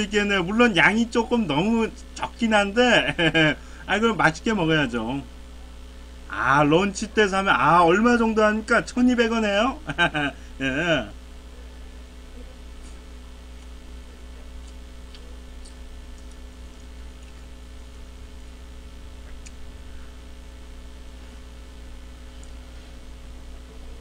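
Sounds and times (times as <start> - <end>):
mains hum and hiss: 0.0 - 24.0.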